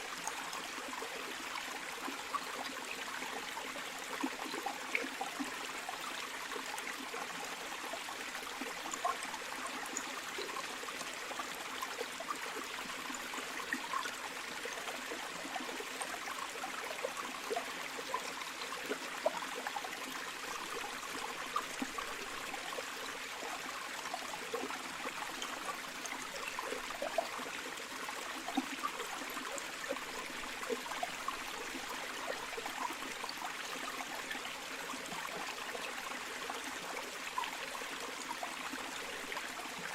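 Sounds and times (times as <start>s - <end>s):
stream flowing with splashes: 0.0s - 39.9s.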